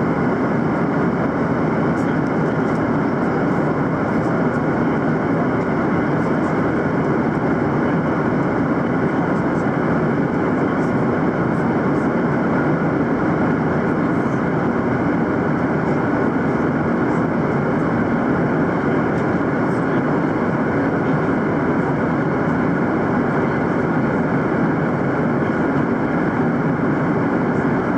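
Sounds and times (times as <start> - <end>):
jet engines rushing: 0.0 - 27.9.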